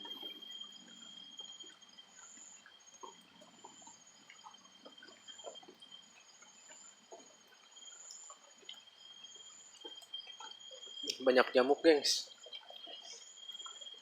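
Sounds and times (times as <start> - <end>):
water drips: 0.0 - 14.0.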